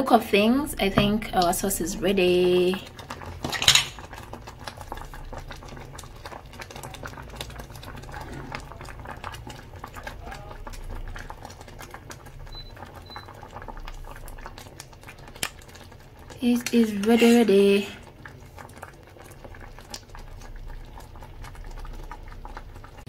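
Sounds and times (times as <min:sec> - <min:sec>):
thick sauce bubbling in pot: 0:00.6 - 0:23.0.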